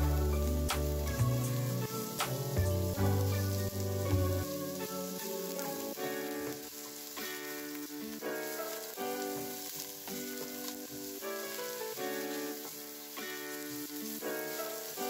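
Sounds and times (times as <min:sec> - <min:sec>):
background music of sustained chords: 0:00.0 - 0:15.0
onions sizzling in hot oil: 0:00.0 - 0:15.0.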